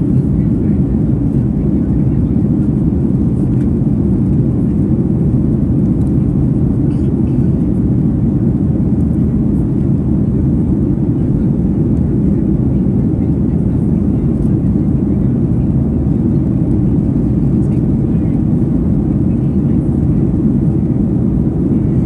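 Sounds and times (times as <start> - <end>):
airplane cabin roar: 0.0 - 22.0.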